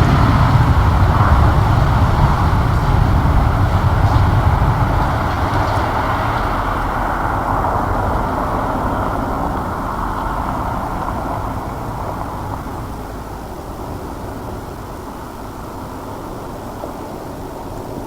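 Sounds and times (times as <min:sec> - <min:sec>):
tyres crunching on gravel: 0:00.0 - 0:16.4.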